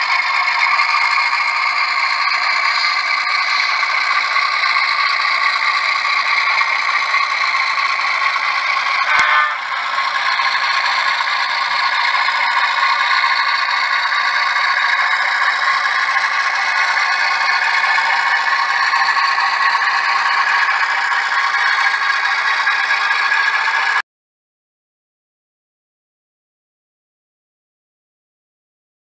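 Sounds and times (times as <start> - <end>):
model train wheels rattling on rail: 0.0 - 24.0.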